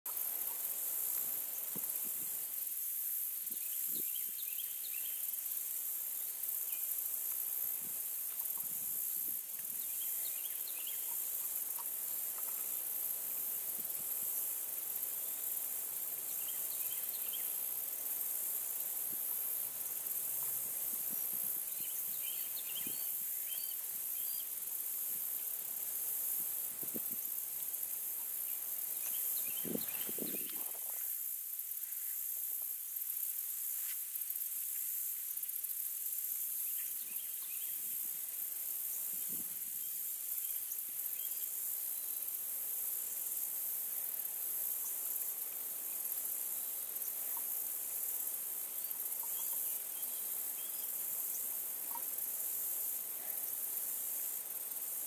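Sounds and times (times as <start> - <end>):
insect chorus drone: 0.1 - 55.0.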